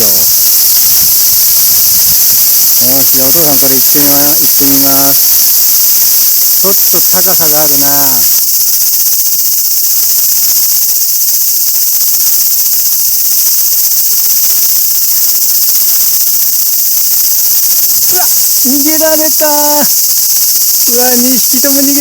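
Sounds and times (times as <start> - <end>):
cicadas singing: 0.0 - 22.0.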